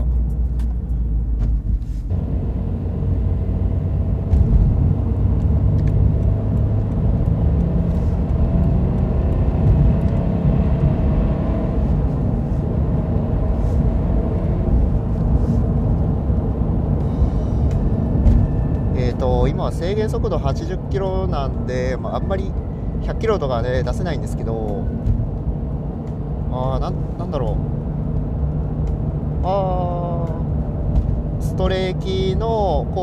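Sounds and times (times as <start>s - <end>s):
car engine inside cabin: 0.0s - 33.0s.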